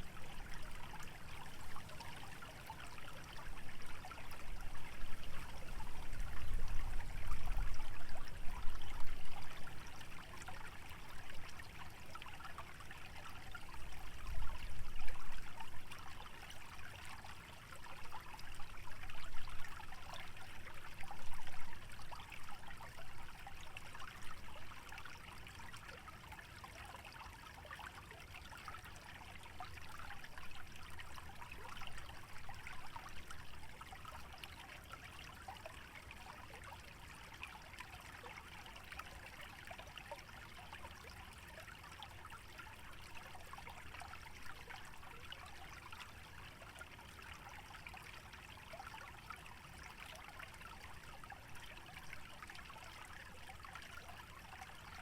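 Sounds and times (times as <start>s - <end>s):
stream trickling and babbling: 0.0s - 55.0s.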